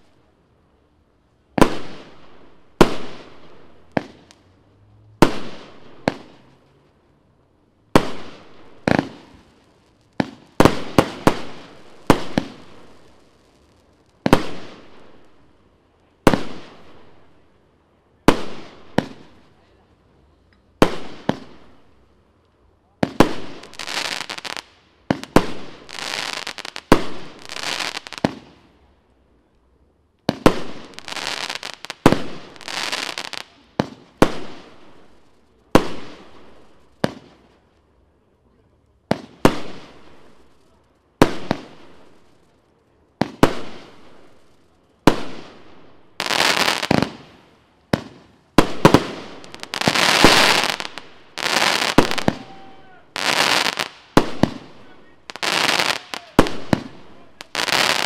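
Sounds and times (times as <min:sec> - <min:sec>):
firework bangs with hiss: 0:00.0 - 0:00.2, 0:01.5 - 0:06.7, 0:07.8 - 0:17.5, 0:18.2 - 0:19.8, 0:20.4 - 0:22.1, 0:22.9 - 0:28.9, 0:30.2 - 0:37.7, 0:39.0 - 0:58.0.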